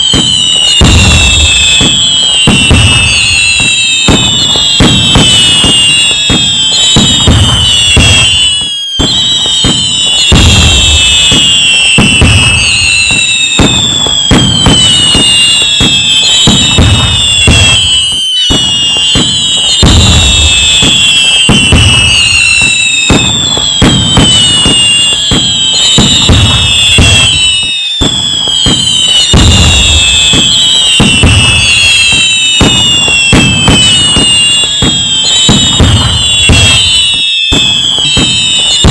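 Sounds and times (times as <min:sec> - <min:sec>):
fireworks bangs and crackling: 0:00.0 - 0:38.9
whistles falling in pitch: 0:00.0 - 0:38.9.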